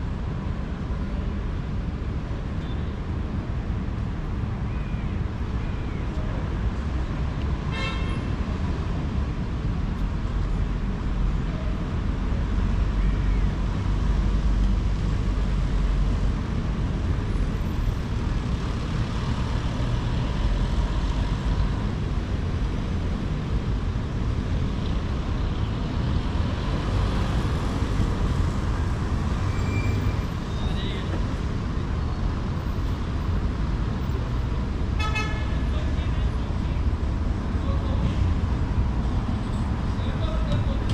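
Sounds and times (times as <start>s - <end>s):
traffic rumble: 0.0s - 40.9s.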